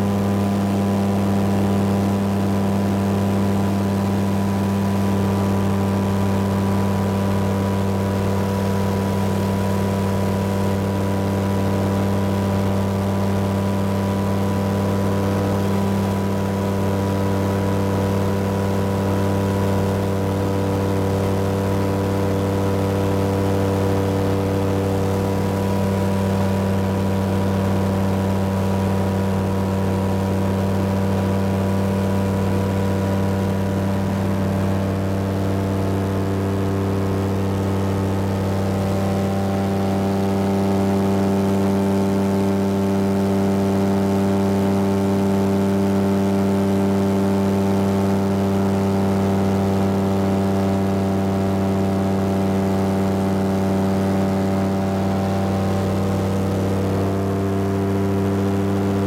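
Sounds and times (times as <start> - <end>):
aircraft engine drone: 0.0 - 59.0.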